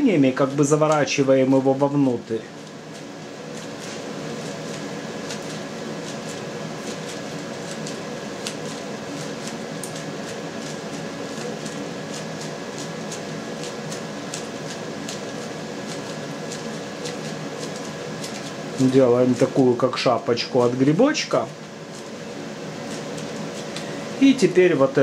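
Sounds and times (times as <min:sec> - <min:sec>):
fan-like hum: 0:00.0 - 0:25.0.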